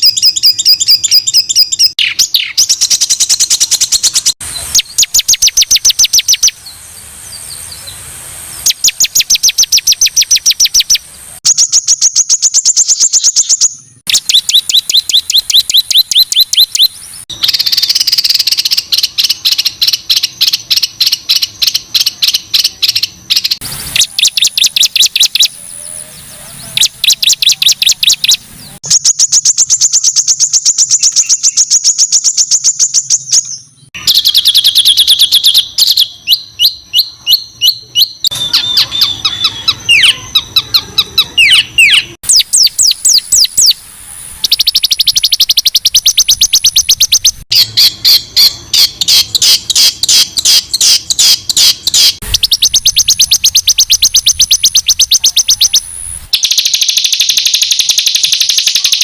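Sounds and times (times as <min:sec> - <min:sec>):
songbird trilling harsh phrases: 0:00.0 - 0:06.8, 0:08.6 - 0:59.0.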